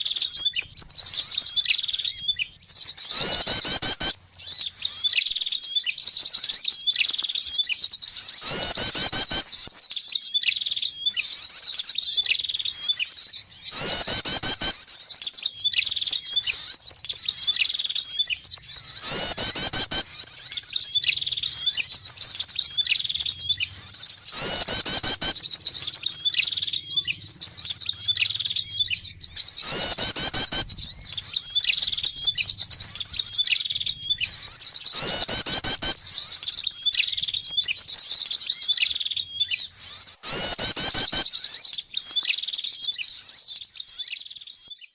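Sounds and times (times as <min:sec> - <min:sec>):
loud bird call: 0:00.0 - 0:44.9
small birds chirping: 0:00.0 - 0:44.9.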